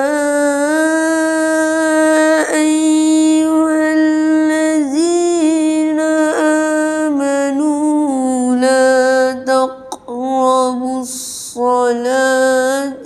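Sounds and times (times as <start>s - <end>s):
boy reciting melodically: 0.0s - 13.0s.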